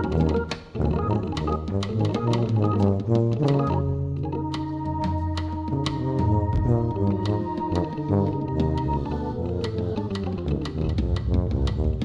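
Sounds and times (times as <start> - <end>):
organ-like keyboard chords: 0.0 - 11.4
low bass line: 0.8 - 11.8.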